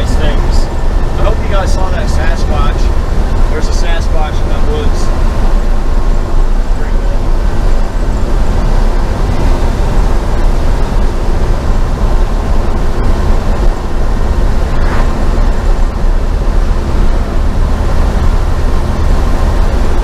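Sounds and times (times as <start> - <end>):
pickup engine drone: 0.0 - 20.0
road noise: 0.0 - 20.0.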